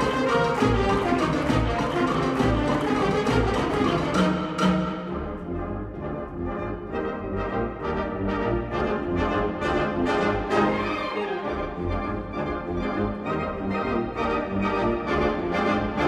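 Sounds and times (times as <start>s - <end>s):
wind band playing: 0.0s - 16.0s.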